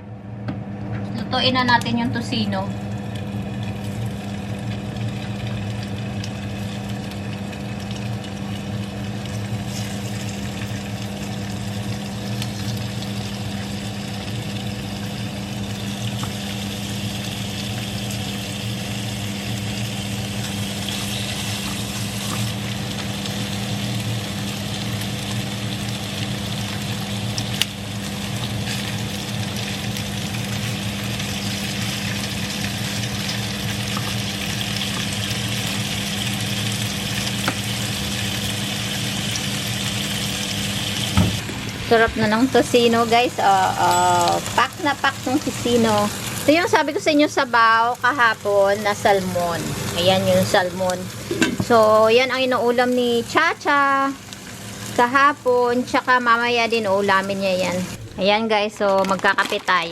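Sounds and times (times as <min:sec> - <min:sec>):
low motor hum: 0:00.0 - 0:59.8
meat sizzling in a pan: 0:02.4 - 0:58.1.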